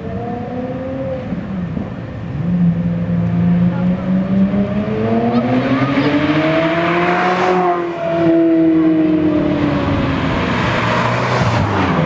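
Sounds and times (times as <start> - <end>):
car engines approaching: 0.0 - 12.0.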